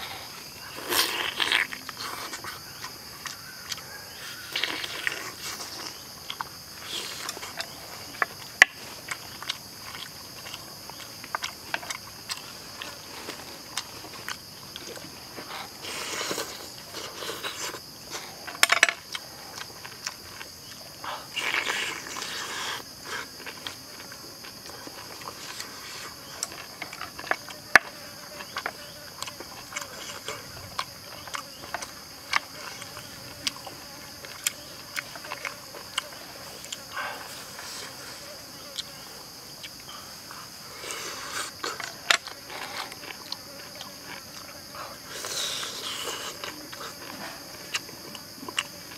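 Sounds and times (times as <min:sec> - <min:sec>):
forest insects chirring: 0:00.0 - 0:48.9
person chewing: 0:04.4 - 0:27.7, 0:28.3 - 0:38.0, 0:40.8 - 0:48.9.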